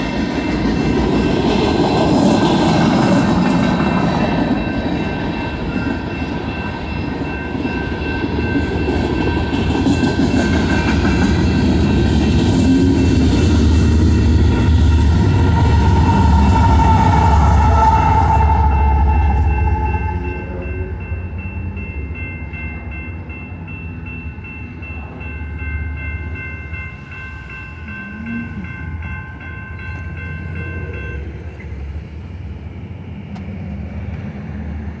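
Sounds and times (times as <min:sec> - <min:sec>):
crossing warning bell ringing: 0:00.0 - 0:33.0
freight train rumble: 0:00.0 - 0:35.0.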